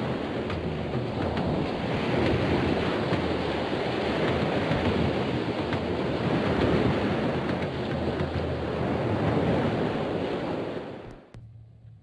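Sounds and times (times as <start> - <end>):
sea waves surf: 0.0 - 11.3.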